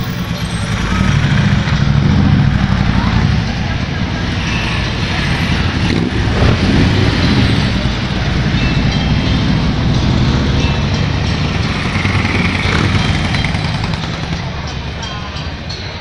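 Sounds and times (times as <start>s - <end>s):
motorcycles riding past: 0.0s - 15.0s.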